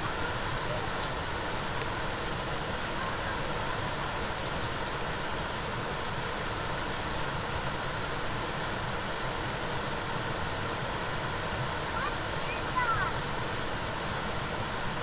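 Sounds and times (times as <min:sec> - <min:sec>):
waterfall creek water rushing: 0:00.0 - 0:15.0.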